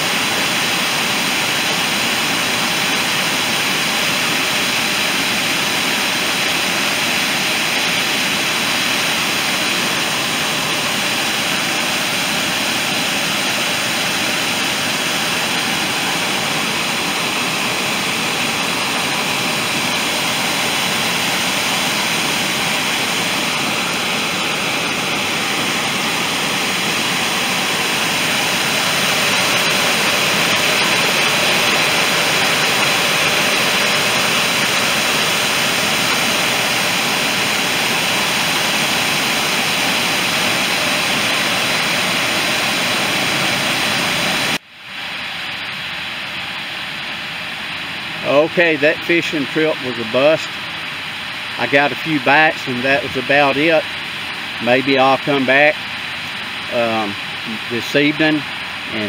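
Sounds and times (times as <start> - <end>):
water rushing over dam spillway: 0.0 - 59.0.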